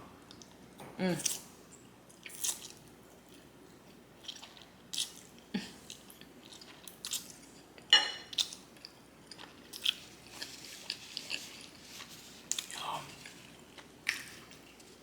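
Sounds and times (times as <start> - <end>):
person chewing pasta: 2.1 - 15.0.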